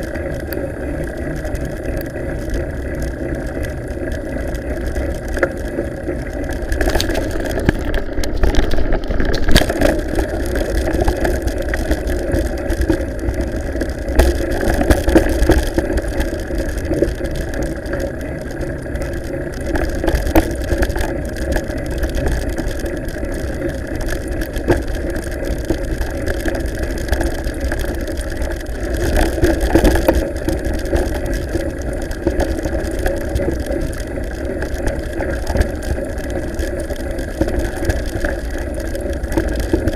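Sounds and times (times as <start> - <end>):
bike clicks and rattles: 0.0 - 39.9
bike tyres rolling on gravel: 0.0 - 39.9.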